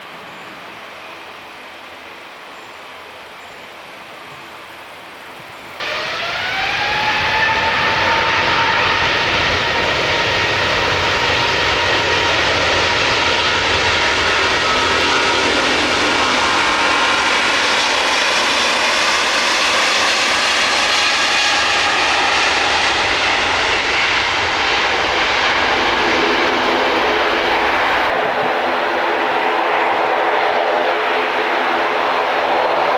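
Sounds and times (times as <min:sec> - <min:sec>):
jet engine roar with whine: 0:05.4 - 0:32.9.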